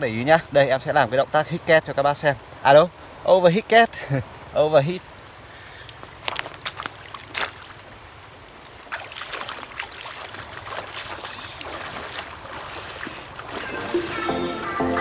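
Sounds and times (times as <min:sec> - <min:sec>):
water splashing and trickling: 0:01.7 - 0:15.0.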